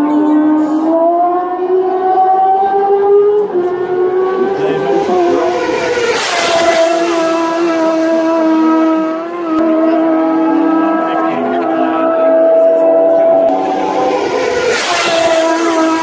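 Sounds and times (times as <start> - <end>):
motorcycle passing close: 0.0 - 16.0
racing motorcycles at high revs: 0.0 - 16.0.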